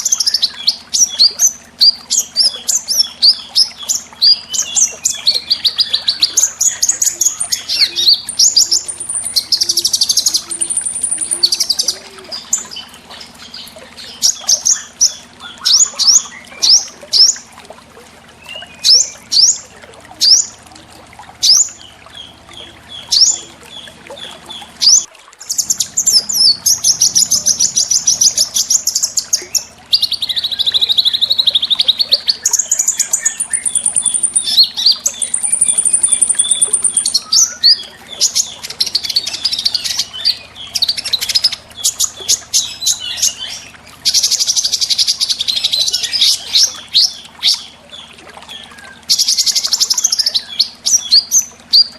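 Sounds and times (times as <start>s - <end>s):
songbirds singing trills: 0.0s - 17.6s, 18.2s - 51.9s.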